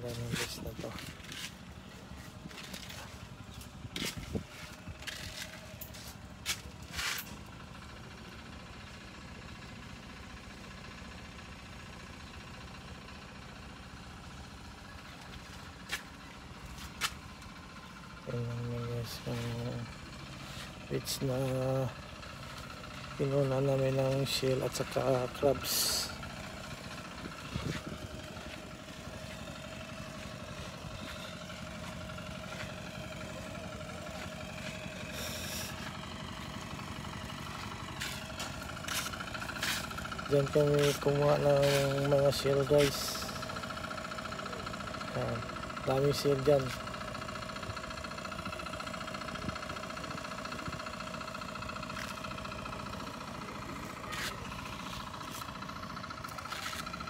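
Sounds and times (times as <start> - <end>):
engine idling hum: 0.0 - 57.0
low mechanical rumble: 0.0 - 57.0.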